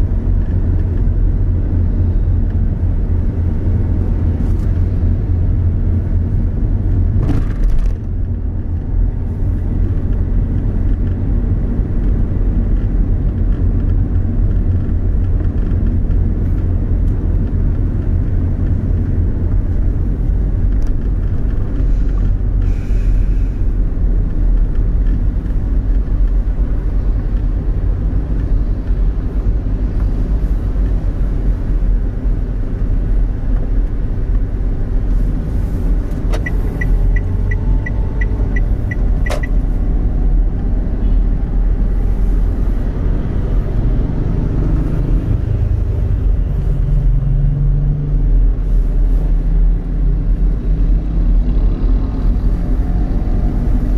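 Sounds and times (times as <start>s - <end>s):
moving vehicle rumble: 0.0s - 53.9s.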